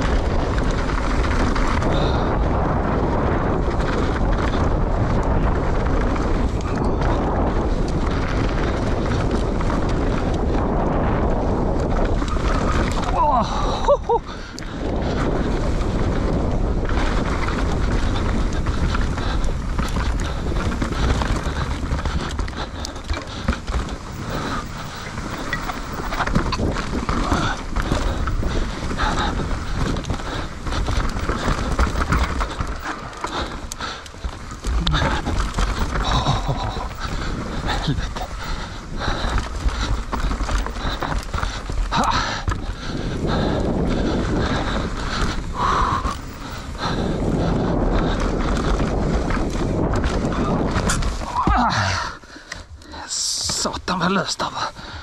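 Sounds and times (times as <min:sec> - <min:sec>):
motorcycle engine rumble: 0:00.0 - 0:53.6
mountain bike rattling: 0:00.0 - 0:55.0
wind rushing over camera: 0:00.0 - 0:55.0.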